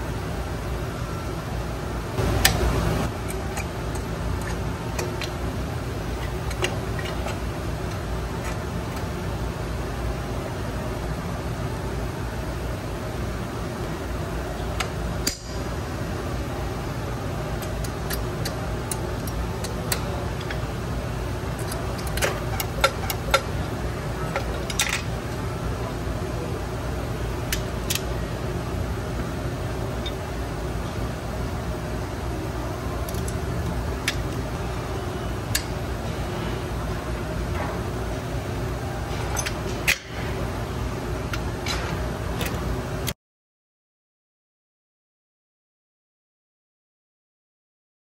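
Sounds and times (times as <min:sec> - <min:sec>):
mechanical hum: 0:00.0 - 0:43.2.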